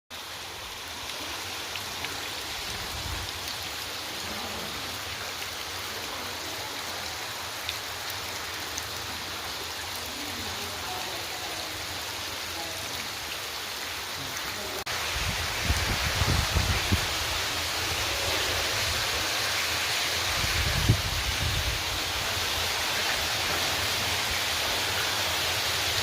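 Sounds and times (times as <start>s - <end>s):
running water rushing: 0.1s - 26.0s.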